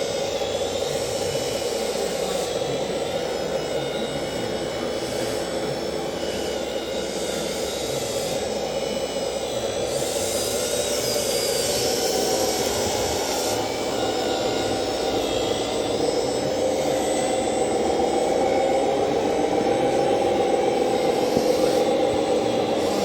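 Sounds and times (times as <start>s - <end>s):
faint high whines: 0.0s - 23.0s
steady mechanical drone: 0.0s - 23.0s.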